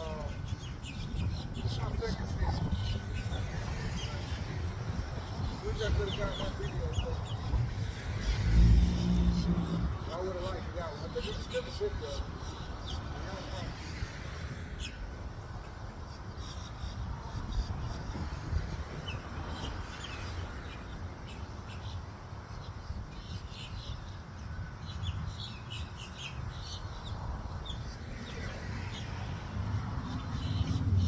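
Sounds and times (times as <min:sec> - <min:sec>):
road traffic rumble: 0:00.0 - 0:31.0
small birds chirping: 0:00.0 - 0:31.0.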